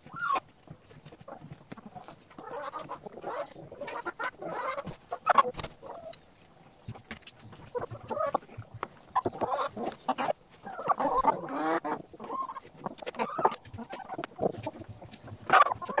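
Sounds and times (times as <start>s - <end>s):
beaks pecking at feed: 0.0s - 16.0s
hens clucking: 0.0s - 16.0s
hens drawn-out calls: 1.3s - 6.2s, 7.5s - 16.0s.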